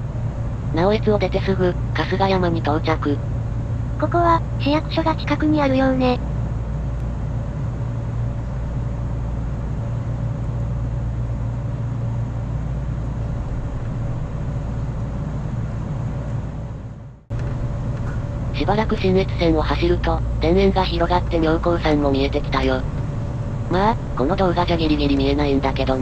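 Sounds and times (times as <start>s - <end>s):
faint constant hum: 0.0s - 26.0s
train cabin running rumble: 0.0s - 26.0s.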